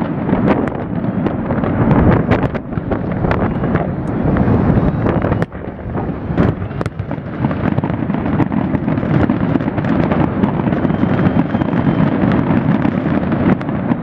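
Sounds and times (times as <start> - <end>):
firework bangs: 0.0 - 14.0
firework crackles: 0.0 - 14.0
low rumble of shells bursting: 0.0 - 14.0.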